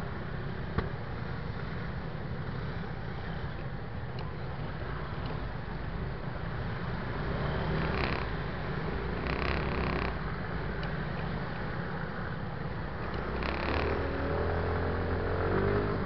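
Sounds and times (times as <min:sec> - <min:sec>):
street traffic: 0:00.0 - 0:16.0
scooters rumbling: 0:02.4 - 0:10.5, 0:11.1 - 0:16.0.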